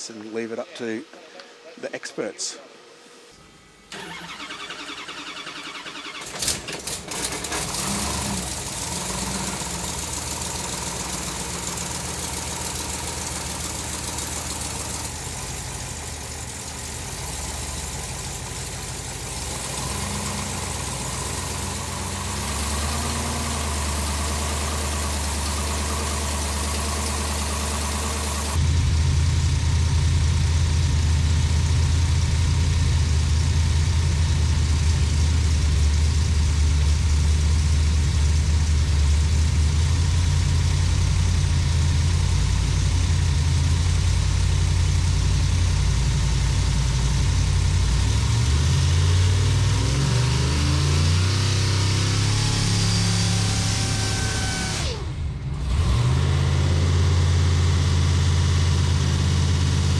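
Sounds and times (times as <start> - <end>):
engine running on dyno: 3.8 - 59.9.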